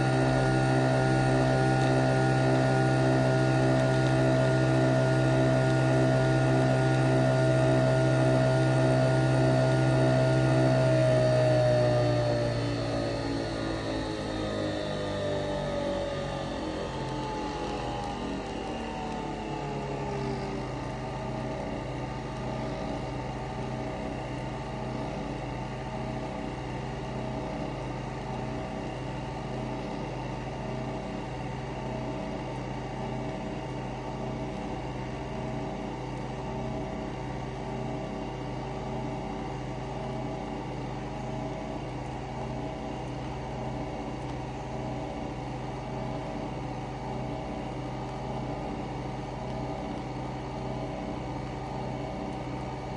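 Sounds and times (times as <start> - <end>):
coffee machine humming: 0.0 - 52.9.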